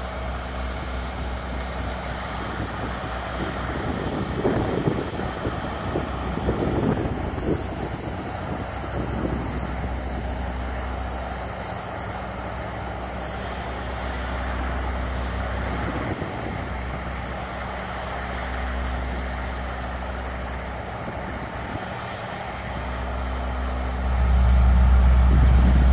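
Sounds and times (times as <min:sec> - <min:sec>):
diesel engines of paving machinery: 0:00.0 - 0:25.9.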